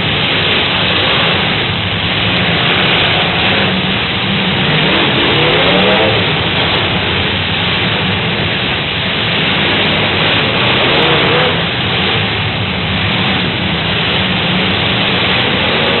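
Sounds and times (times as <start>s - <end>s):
car engines running hard: 0.0s - 16.0s
dense steady noise: 0.0s - 16.0s
engine revving: 0.0s - 16.0s.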